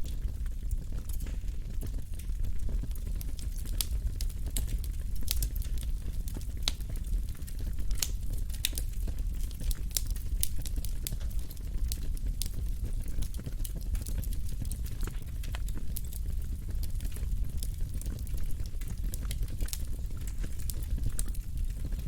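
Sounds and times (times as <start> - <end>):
logs popping and crackling: 0.0 - 22.0
low rumble of flames: 0.0 - 22.0.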